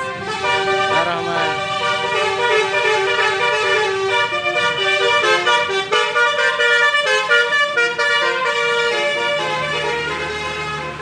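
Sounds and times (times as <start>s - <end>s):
musical air horn playing a tune: 0.0s - 11.0s.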